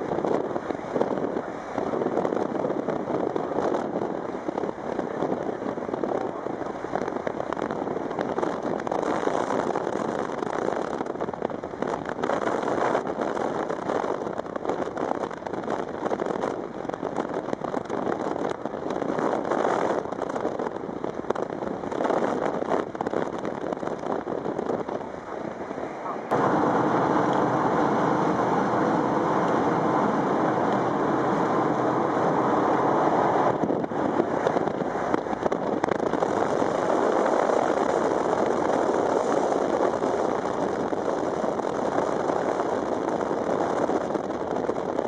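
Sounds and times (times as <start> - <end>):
road noise: 0.0 - 45.0
wind buffeting microphone: 0.0 - 45.0.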